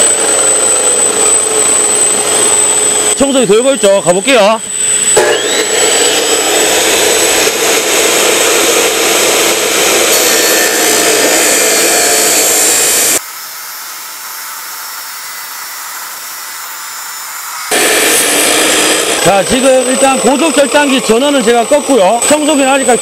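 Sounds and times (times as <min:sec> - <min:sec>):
cut-off saw grinding steel pipe: 0:00.0 - 0:23.0
vacuum cleaner running: 0:00.0 - 0:23.0.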